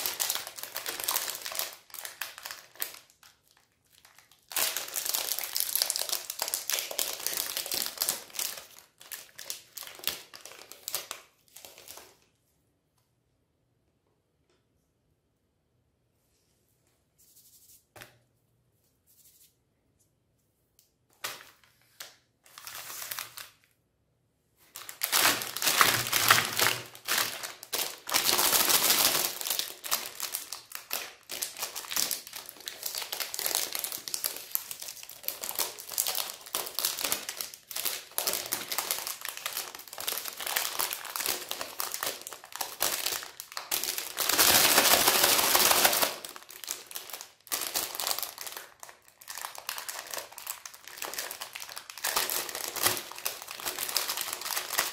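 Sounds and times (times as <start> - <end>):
plastic wrapper crinkling: 0.0 - 12.3, 21.1 - 23.8, 24.6 - 54.9.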